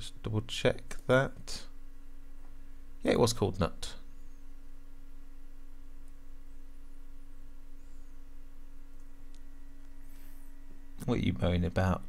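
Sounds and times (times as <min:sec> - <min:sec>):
low background hiss: 0:00.0 - 0:12.0
steady tonal hum: 0:00.0 - 0:12.0.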